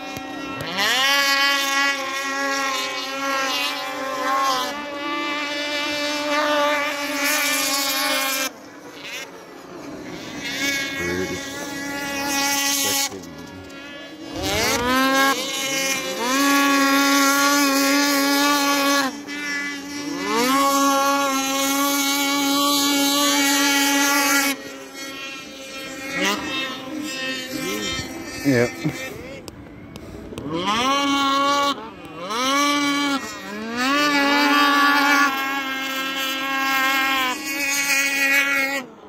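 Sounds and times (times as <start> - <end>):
snowmobile engines whining: 0.0 - 39.0.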